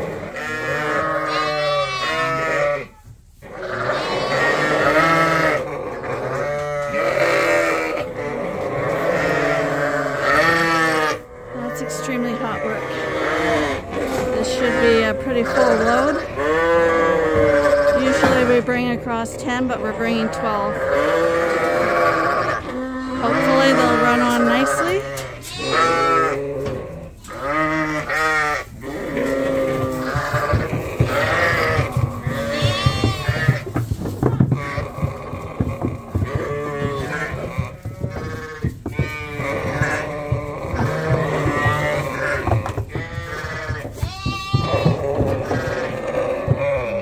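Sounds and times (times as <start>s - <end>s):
sheep bleating: 0.0s - 33.7s, 34.4s - 47.0s.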